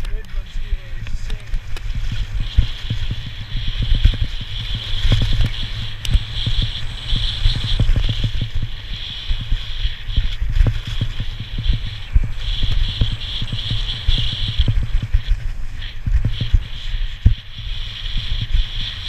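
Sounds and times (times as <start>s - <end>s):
skis hissing over snow: 0.0s - 19.0s
wind buffeting microphone: 0.0s - 19.0s.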